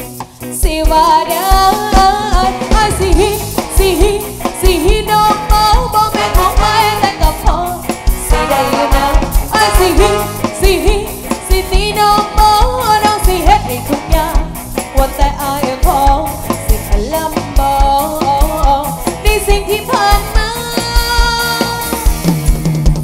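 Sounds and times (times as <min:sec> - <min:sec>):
electric bass: 0:00.0 - 0:23.0
electric guitars: 0:00.0 - 0:23.0
woman singing lead: 0:00.3 - 0:22.2.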